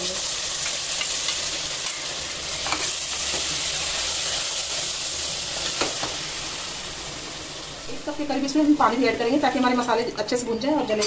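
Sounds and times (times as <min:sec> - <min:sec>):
paste sizzling in hot oil: 0:00.0 - 0:10.1.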